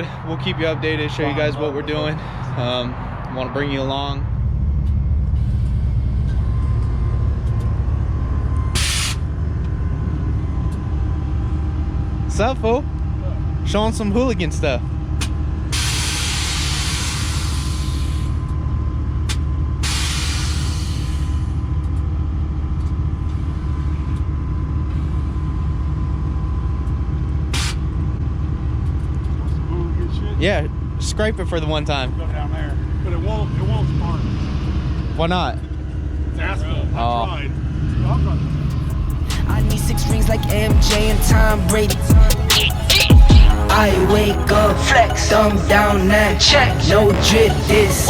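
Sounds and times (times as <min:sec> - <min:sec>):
motor vehicle rumbling: 0:00.0 - 0:48.0.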